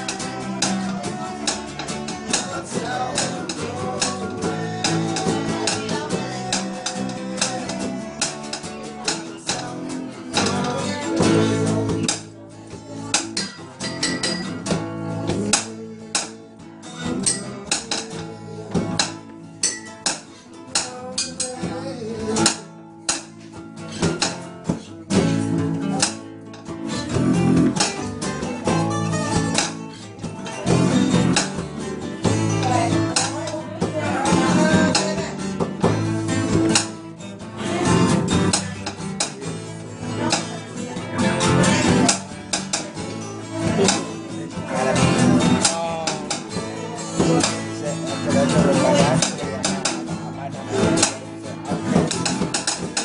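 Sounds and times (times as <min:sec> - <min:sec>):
acoustic guitars strumming: 0:00.0 - 0:53.0.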